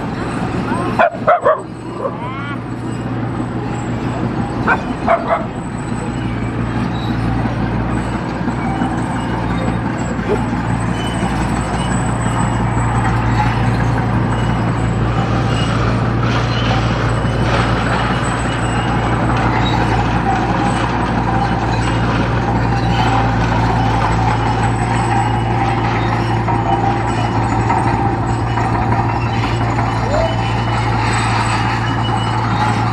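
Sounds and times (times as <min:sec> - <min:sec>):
heavy machine diesel engine drone: 0:00.0 - 0:32.9.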